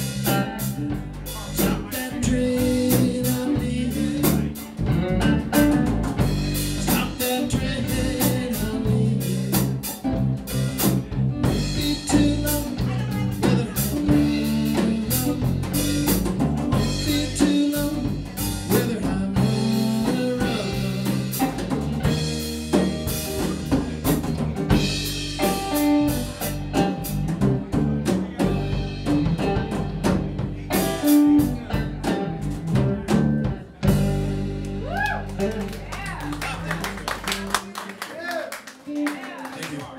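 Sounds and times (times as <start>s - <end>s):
drum kit beat: 0.0s - 37.8s
blues band playing: 0.0s - 39.9s
guitar: 0.0s - 39.9s.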